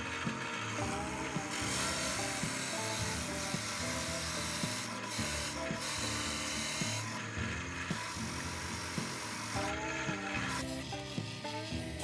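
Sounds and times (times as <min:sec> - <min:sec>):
instrumental background music: 0:00.0 - 0:12.0
wood being sanded: 0:00.0 - 0:12.0.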